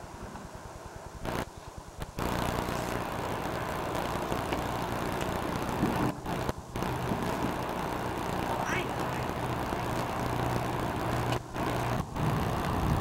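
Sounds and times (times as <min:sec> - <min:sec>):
small boat motor running: 0:00.2 - 0:13.0.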